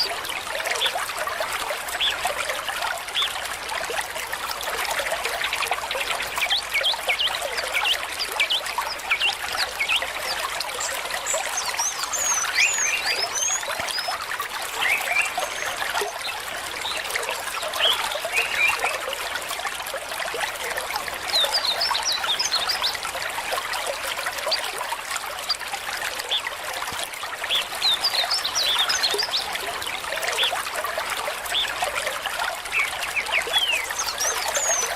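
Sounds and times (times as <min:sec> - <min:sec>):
stream trickling and babbling: 0:00.0 - 0:34.9.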